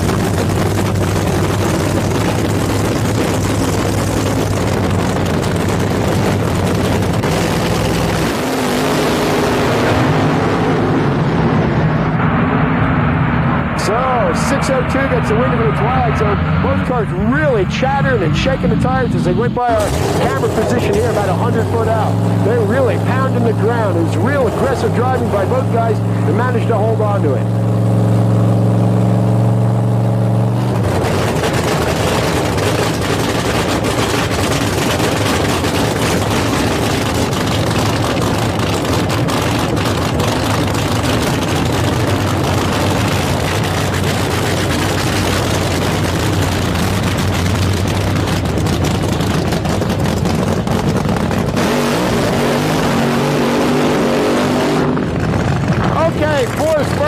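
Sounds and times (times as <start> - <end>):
race car engine crackling: 0.0 - 57.0.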